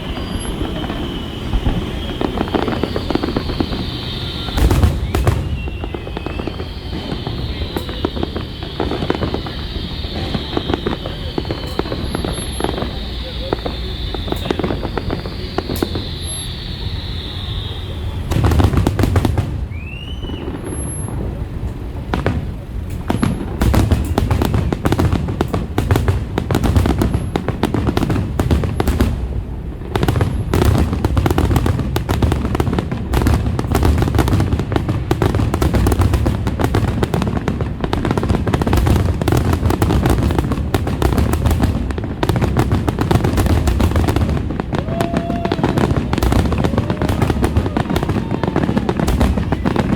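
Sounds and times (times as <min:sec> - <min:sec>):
rising firework whistle: 0:00.0 - 0:21.6, 0:22.2 - 0:49.9
fireworks booming and crackling: 0:00.0 - 0:49.9.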